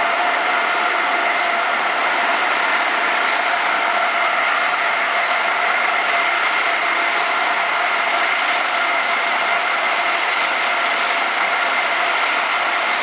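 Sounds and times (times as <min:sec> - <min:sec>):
constant machine whine: 0:00.0 - 0:13.0.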